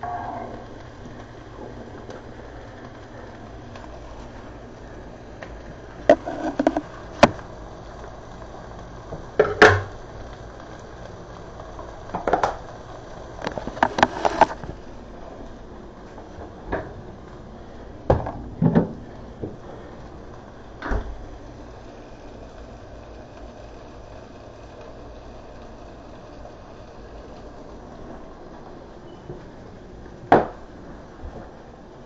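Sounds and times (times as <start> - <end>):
faint steady hiss: 0.0 - 32.0.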